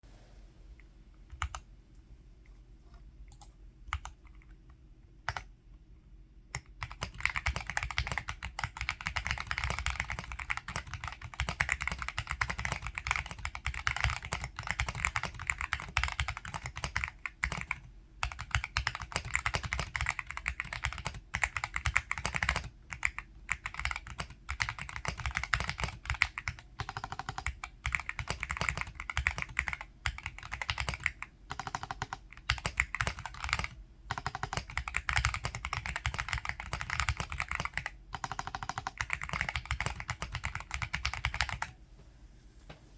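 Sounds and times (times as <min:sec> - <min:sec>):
mechanical keyboard typing: 0:03.3 - 0:04.6, 0:05.3 - 0:05.5, 0:06.5 - 0:41.8.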